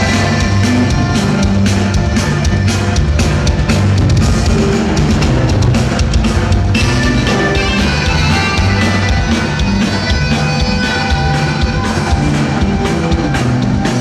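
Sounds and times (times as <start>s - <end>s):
band playing loud music: 0.0s - 14.0s
drum kit beating: 0.0s - 14.0s.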